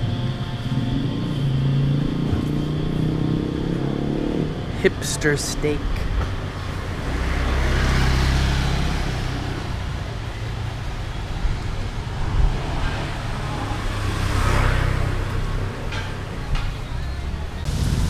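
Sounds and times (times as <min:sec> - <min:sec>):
vehicle passing by: 0:00.0 - 0:16.3.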